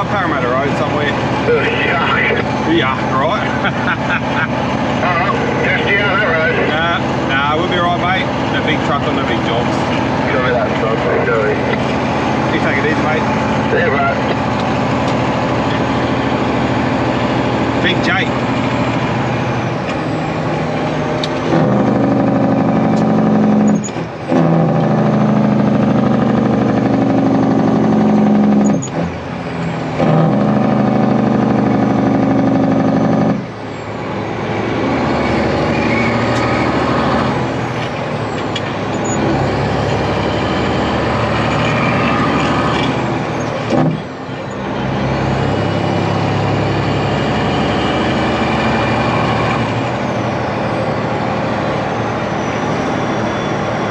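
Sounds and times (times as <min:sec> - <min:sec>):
truck diesel engine running hard: 0:00.0 - 0:53.9.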